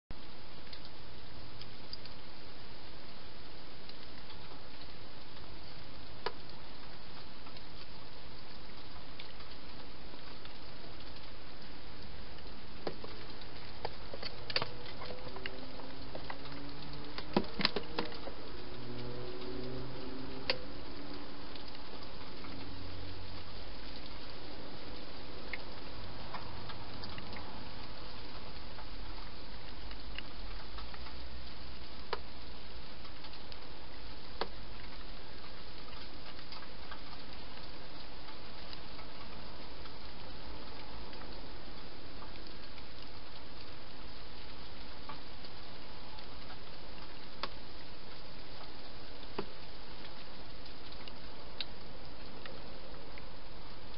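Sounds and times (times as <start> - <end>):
steady hiss: 0.2 - 53.9.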